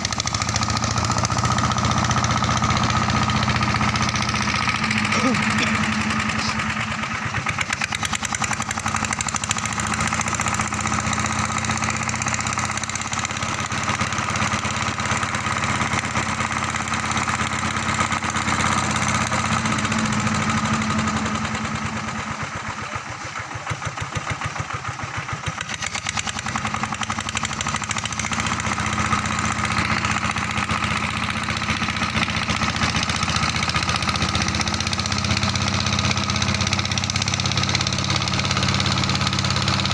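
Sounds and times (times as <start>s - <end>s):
pump engine running: 0.0s - 39.9s.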